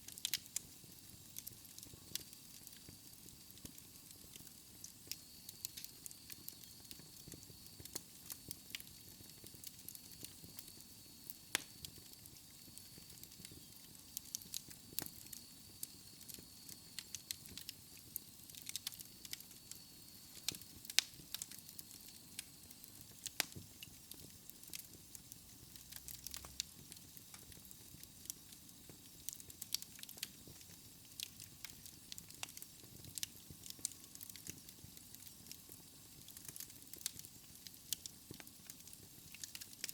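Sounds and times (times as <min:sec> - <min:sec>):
fire hissing: 0:00.0 - 0:39.9
wood fire crackling: 0:00.0 - 0:39.9.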